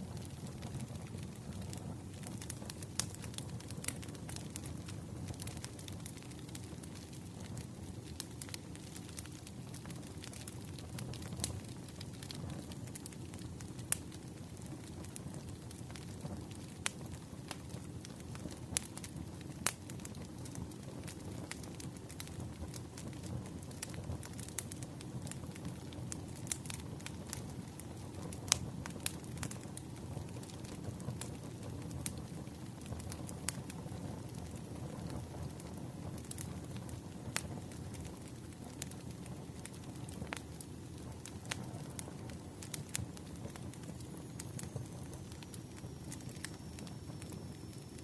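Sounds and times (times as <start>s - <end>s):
firewood crackling and popping: 0.0s - 48.0s
low rumble of fire: 0.0s - 48.0s.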